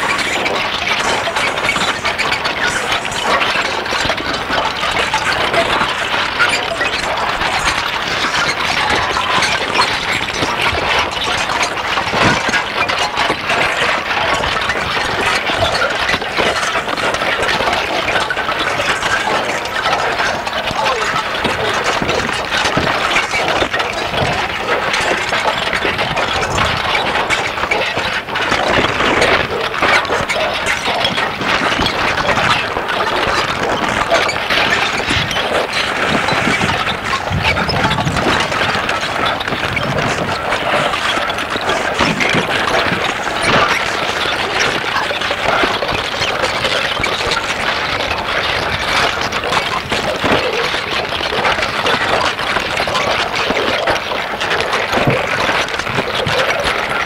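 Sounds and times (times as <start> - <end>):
dense churning harsh noise: 0.0 - 57.0
small clicks and crackles: 0.0 - 57.0.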